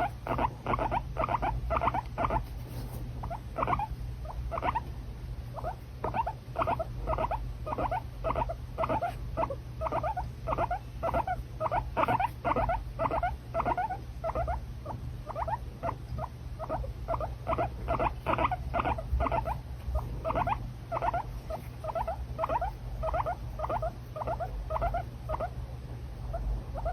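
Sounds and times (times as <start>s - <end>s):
guinea pig squeaking: 0.0s - 4.9s, 5.5s - 26.9s.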